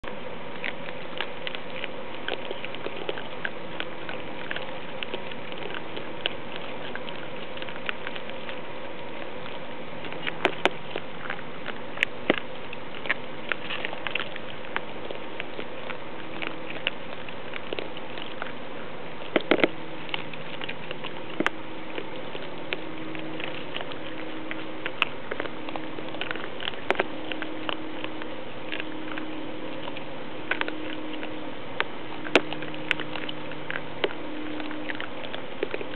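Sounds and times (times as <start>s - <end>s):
crunching of dry kibble: 0.0s - 35.9s.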